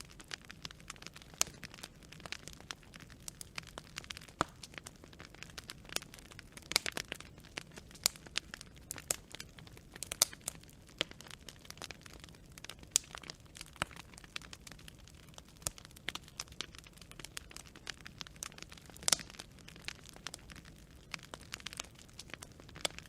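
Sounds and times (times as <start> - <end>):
low steady hiss: 0.0 - 23.0
wood fire crackling: 0.0 - 23.0.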